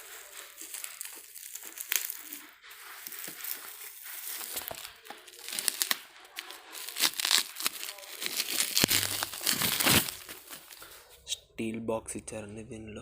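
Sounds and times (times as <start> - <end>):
packaging crinkling: 0.0 - 11.1.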